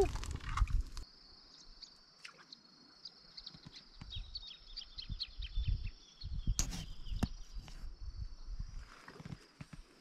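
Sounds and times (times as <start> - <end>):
small birds chirping: 0.8 - 9.6.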